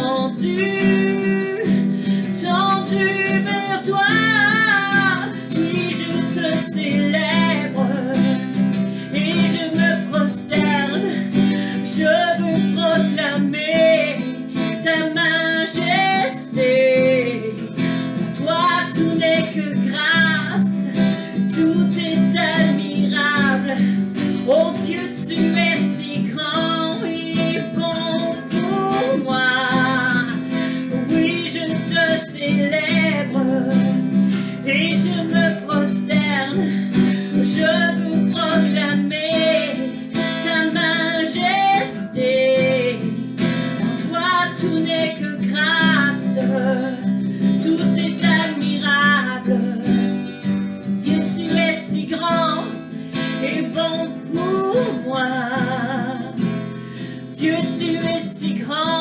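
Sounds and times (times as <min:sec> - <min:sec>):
acoustic guitar strumming: 0:00.0 - 0:59.0
woman singing: 0:00.0 - 0:59.0.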